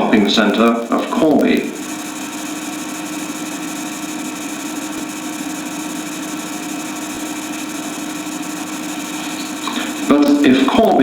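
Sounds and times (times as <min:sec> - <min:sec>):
film soundtrack hum and hiss: 0:00.0 - 0:11.0.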